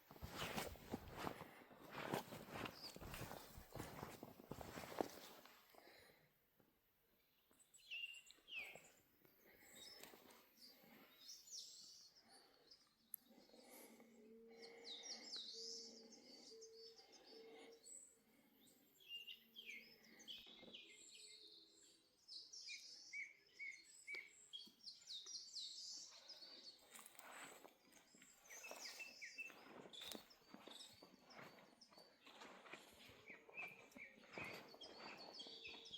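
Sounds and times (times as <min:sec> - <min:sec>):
birds chirping: 0:00.0 - 0:05.4, 0:07.5 - 0:35.9.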